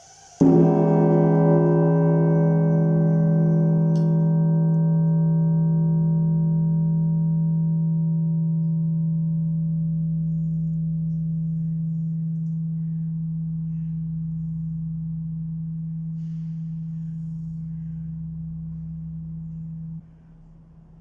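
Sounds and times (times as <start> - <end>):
great bell humming: 0.4 - 20.0.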